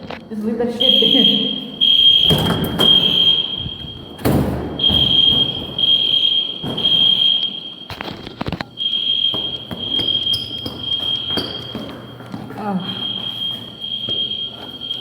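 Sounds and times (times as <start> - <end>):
fire alarm high steady tone: 0.6 - 15.0.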